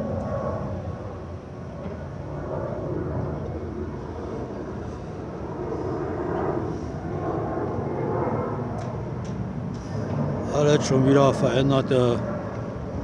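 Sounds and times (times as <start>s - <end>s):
low engine-like rumble: 0.0s - 13.0s.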